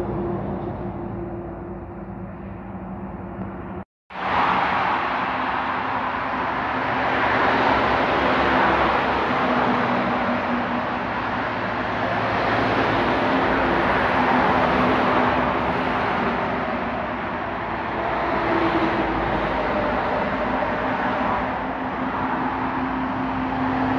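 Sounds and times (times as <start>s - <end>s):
highway traffic rushing: 0.0s - 23.9s
truck engine drone: 0.0s - 23.9s.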